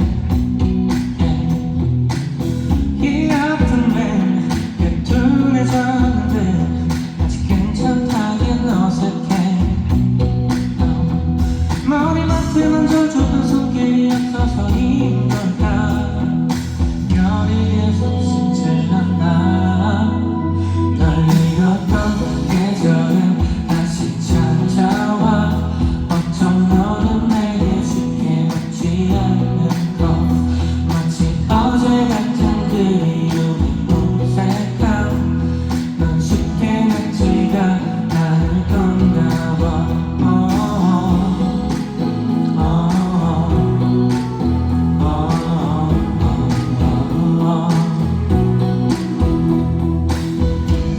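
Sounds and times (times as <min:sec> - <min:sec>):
band accompaniment: 0:00.0 - 0:17.8, 0:20.9 - 0:50.9
man singing: 0:00.0 - 0:50.9.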